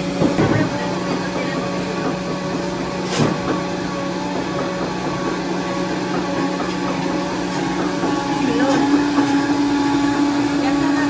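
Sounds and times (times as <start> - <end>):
kitchen machine hum: 0.0 - 11.0.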